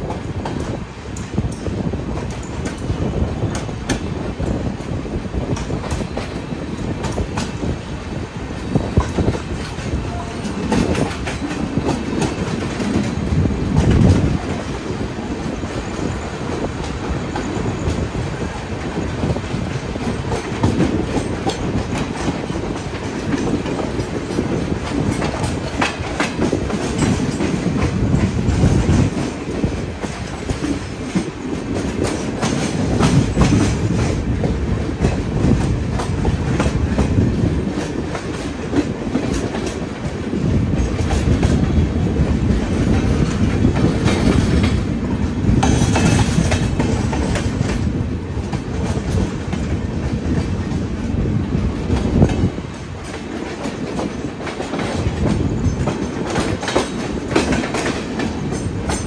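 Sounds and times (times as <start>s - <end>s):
train wheels rumbling on rails: 0.0s - 59.0s
wheels clacking over rail joints: 0.0s - 59.0s.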